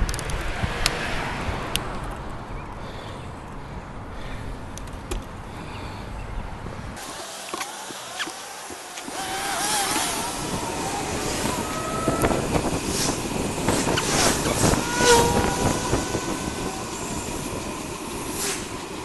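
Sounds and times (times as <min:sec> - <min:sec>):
wind rushing over microphone: 0:00.0 - 0:07.1, 0:08.6 - 0:19.0
road rumble: 0:00.0 - 0:19.0.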